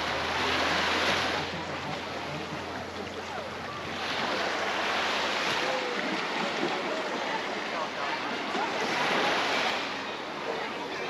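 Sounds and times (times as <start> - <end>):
surf washing onto shore: 0.0 - 11.0.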